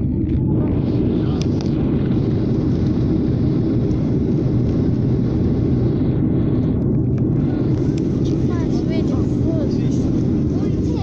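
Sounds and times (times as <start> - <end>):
jet airliner cabin drone: 0.0 - 11.0.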